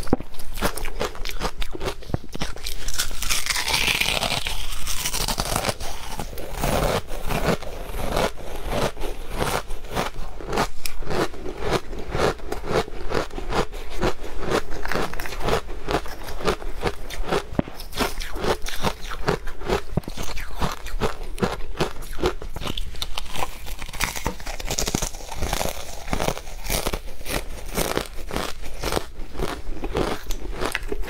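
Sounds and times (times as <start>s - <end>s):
shaved ice being chewed: 0.0s - 31.0s.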